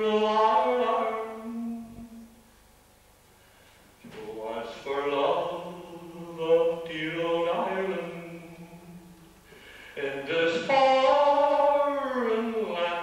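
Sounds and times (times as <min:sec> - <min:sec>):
man singing unaccompanied: 0:00.0 - 0:02.4, 0:04.0 - 0:13.0.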